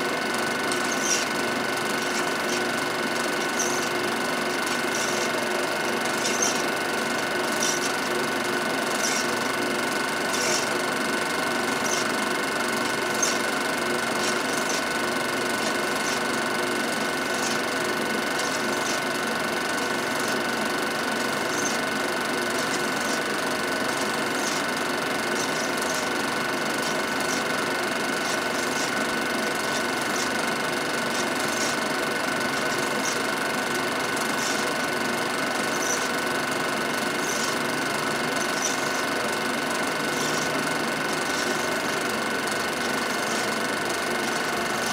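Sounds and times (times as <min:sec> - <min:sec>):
film projector whirring: 0:00.0 - 0:44.9.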